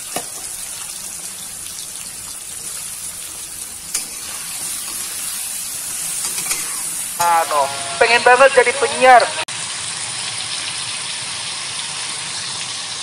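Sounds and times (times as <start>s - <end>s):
chicken livers sizzling in oil: 0.0s - 7.2s, 9.5s - 13.0s.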